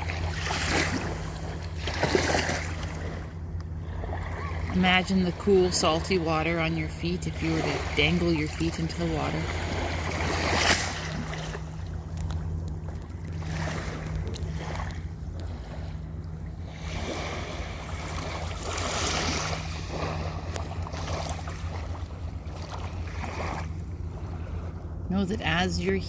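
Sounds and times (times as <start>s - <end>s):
ocean waves washing in: 0.0s - 12.6s, 13.2s - 26.0s
steady low rumble: 0.0s - 26.0s.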